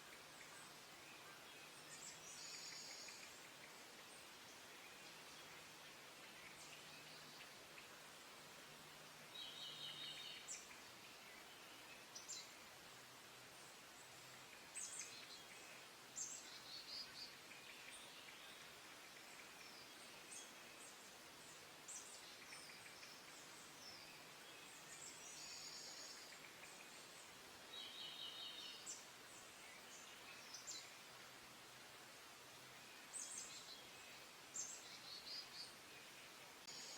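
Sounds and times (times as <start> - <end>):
songbirds chirping: 0.0 - 36.9
steady low hiss: 0.0 - 36.9.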